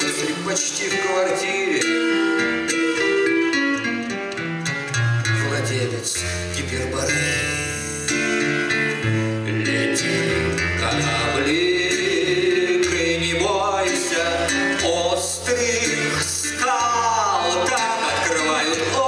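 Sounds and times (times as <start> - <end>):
man singing: 0.0 - 3.2, 5.3 - 19.0
acoustic guitar: 0.0 - 19.0.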